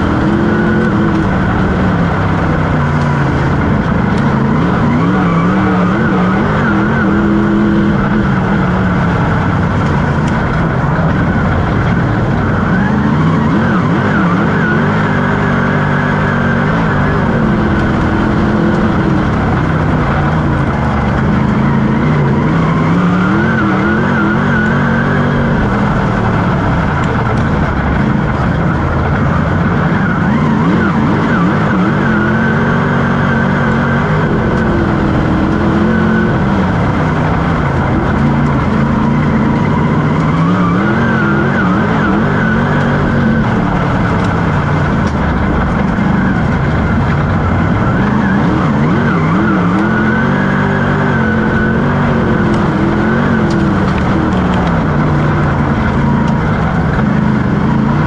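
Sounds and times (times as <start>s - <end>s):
race car engine revving: 0.0s - 58.0s
wind and road noise: 0.0s - 58.0s.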